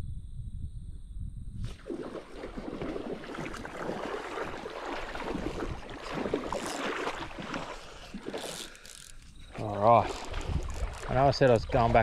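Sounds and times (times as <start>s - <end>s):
feet wading through water: 1.7s - 12.0s.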